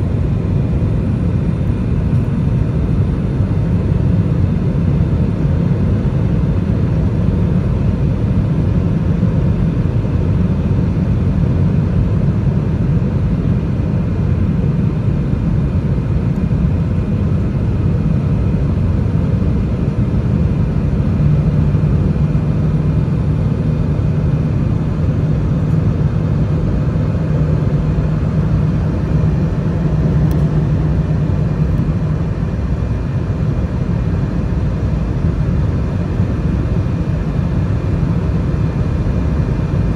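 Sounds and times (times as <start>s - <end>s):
jet engines rumbling: 0.0s - 39.9s
low steady hum: 0.0s - 39.9s.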